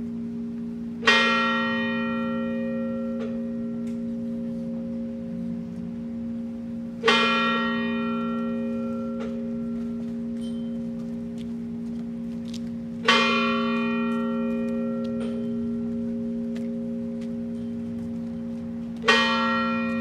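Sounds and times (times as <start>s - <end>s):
large bell tolling: 0.0s - 20.0s.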